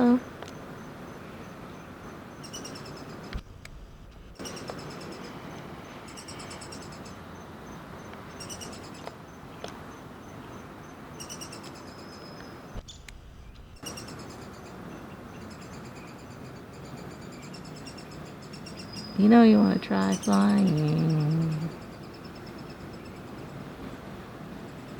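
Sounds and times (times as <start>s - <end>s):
faint high insect trill: 0.0s - 3.3s, 4.1s - 23.6s.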